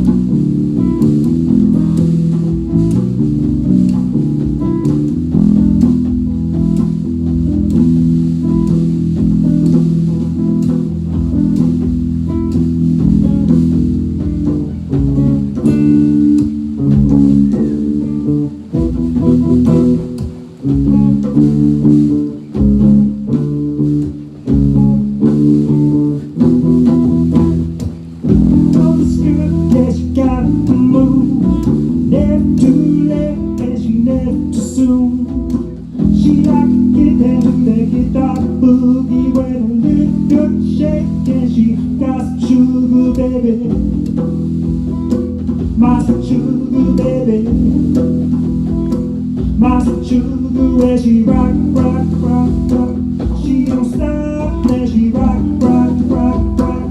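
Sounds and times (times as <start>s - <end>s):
band playing bluesy instrumental: 0.0s - 56.9s.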